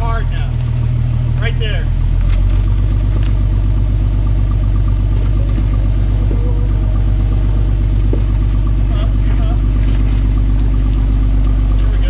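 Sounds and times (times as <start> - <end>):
buggy engine running loud: 0.0 - 12.0.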